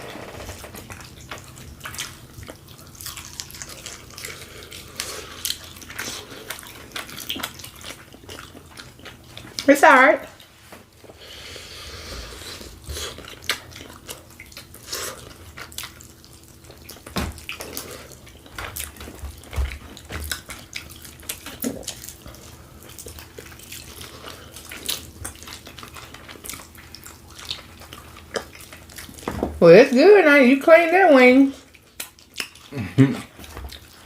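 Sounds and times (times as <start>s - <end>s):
people chewing with wet mouth sounds: 0.2s - 34.0s.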